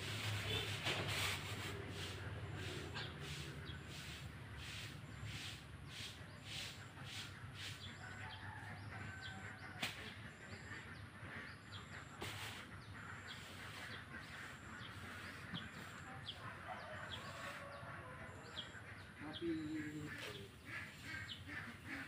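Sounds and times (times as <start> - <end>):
birds chirping: 0.4 - 0.8, 1.9 - 22.0.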